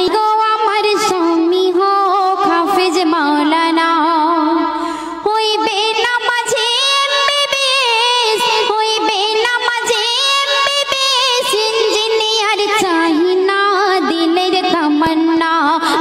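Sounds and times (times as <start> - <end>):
girl singing into microphone: 0.0 - 16.0.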